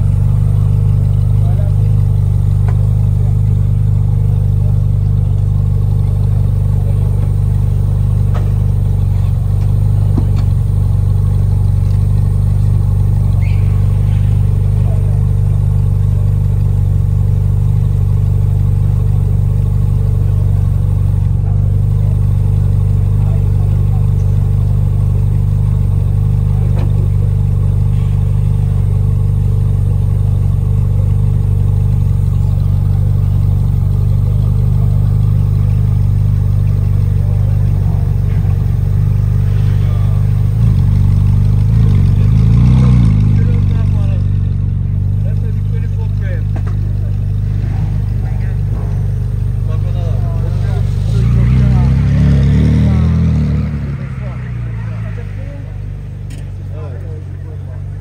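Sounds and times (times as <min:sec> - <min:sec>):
low rumble of street traffic: 0:00.0 - 0:58.0.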